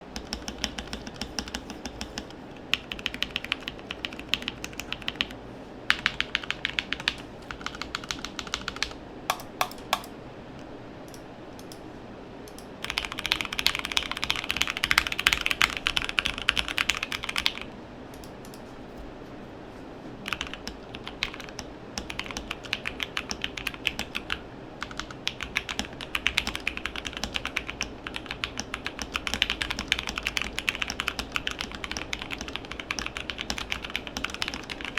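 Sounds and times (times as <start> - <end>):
mechanical keyboard typing: 0.1 - 5.3, 5.9 - 10.1, 12.5 - 18.6, 20.3 - 34.9.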